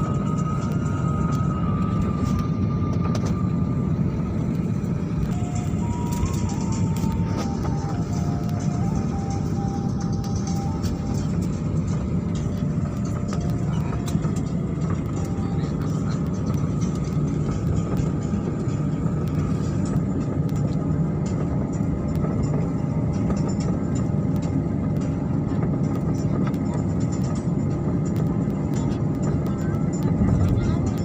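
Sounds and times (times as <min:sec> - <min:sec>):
faint music: 0:00.0 - 0:31.0
vehicle cabin rumble: 0:00.0 - 0:31.0.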